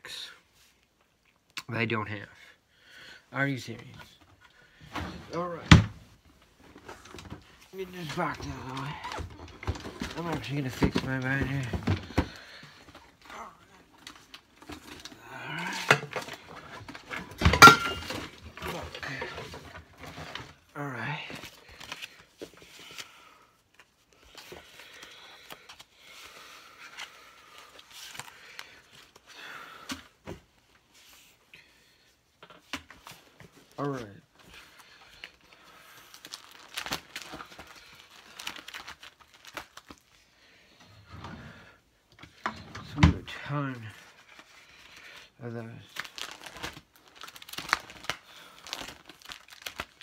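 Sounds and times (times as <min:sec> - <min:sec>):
cards and plastic pages rustling: 0:03.6 - 0:41.0, 0:42.1 - 0:50.0.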